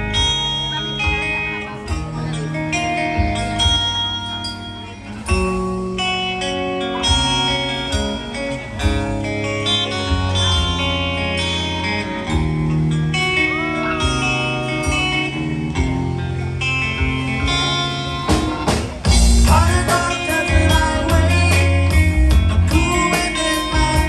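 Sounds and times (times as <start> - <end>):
electric guitar lines: 0.0 - 24.0
live band playing: 0.0 - 24.0.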